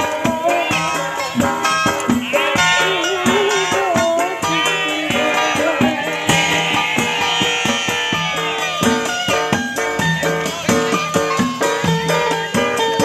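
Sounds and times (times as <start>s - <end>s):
wavering gliding melody: 0.0s - 11.0s
hand drum and large drum rhythm: 0.0s - 13.0s.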